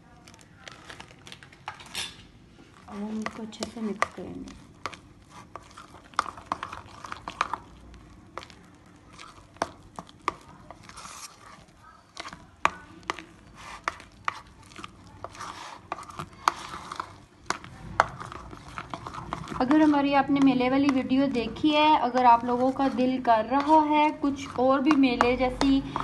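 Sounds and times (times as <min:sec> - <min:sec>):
wet batter squelching: 0:02.4 - 0:26.0.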